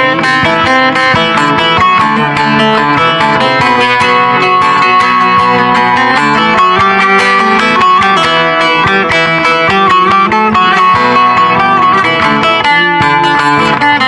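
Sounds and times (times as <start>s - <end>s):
plucked lute melody: 0.0s - 14.0s.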